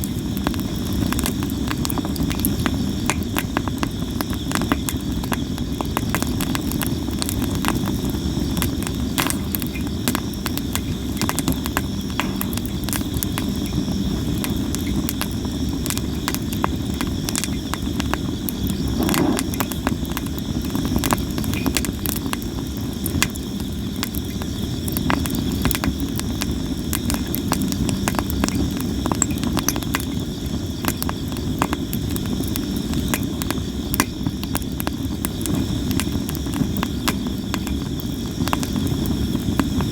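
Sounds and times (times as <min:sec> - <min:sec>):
firewood crackling and popping: 0:00.0 - 0:39.9
insects trilling: 0:00.0 - 0:39.9
low rumble of fire: 0:00.0 - 0:39.9.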